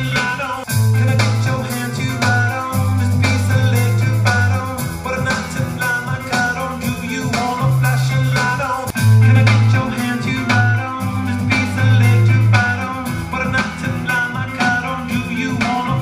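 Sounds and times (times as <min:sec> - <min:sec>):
rock song through pa speaker: 0:00.0 - 0:16.0.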